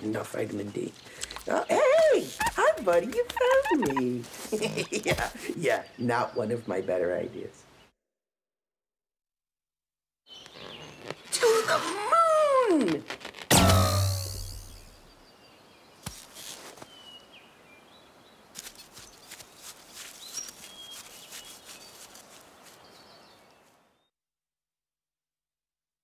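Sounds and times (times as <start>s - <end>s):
small birds chirping: 0.0s - 7.9s, 10.3s - 24.1s.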